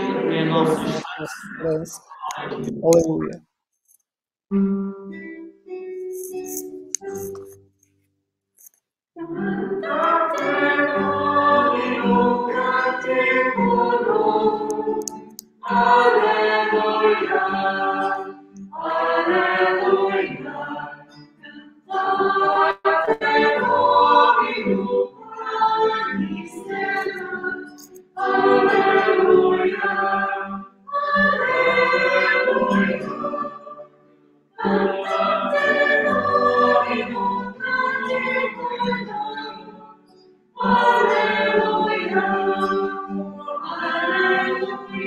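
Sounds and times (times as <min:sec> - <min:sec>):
choir singing a chant: 0:00.0 - 0:02.8, 0:09.2 - 0:33.9, 0:34.6 - 0:40.0, 0:40.6 - 0:45.0.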